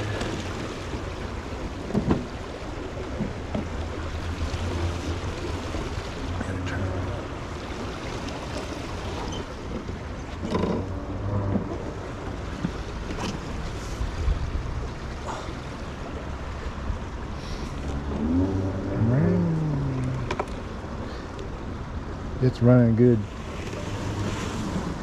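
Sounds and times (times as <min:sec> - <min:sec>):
water rushing through brook: 0:00.0 - 0:25.0.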